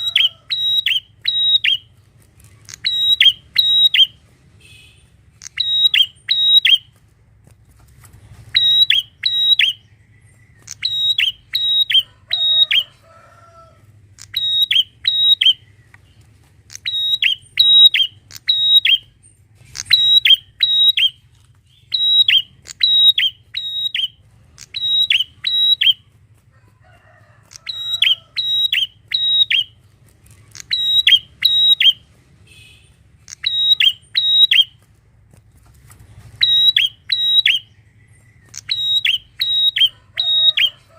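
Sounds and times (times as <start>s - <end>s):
bird singing sharp chip notes: 0.0s - 6.9s, 8.5s - 12.9s, 14.2s - 26.1s, 27.6s - 34.7s, 36.4s - 40.7s.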